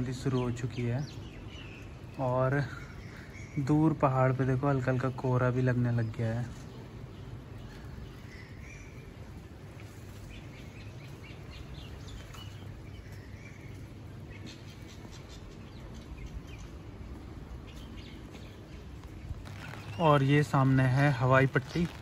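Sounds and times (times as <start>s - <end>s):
birds chirping: 0.0s - 22.0s
outdoor background noise: 0.0s - 22.0s.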